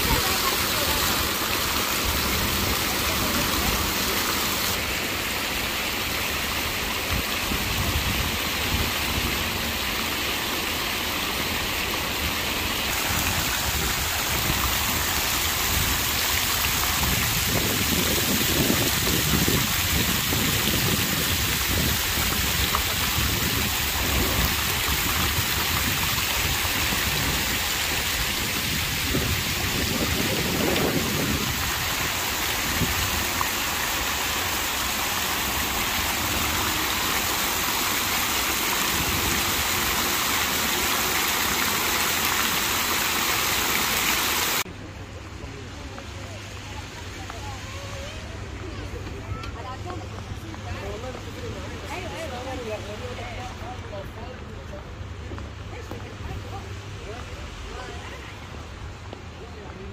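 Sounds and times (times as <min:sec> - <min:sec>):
fountain jets splashing into pool: 0:00.0 - 0:59.9.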